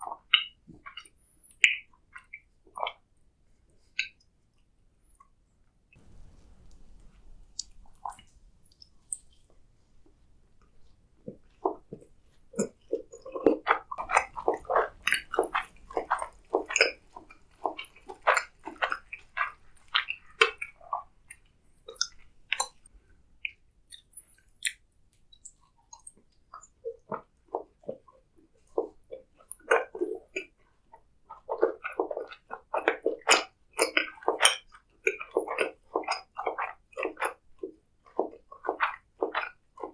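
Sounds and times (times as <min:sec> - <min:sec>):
person chewing food: 0:06.0 - 0:22.9, 0:23.5 - 0:24.9, 0:25.5 - 0:39.9.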